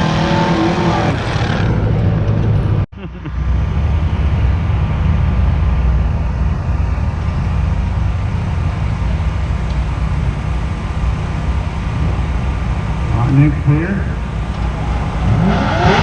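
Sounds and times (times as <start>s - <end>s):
race car engines rumbling: 0.0s - 16.0s.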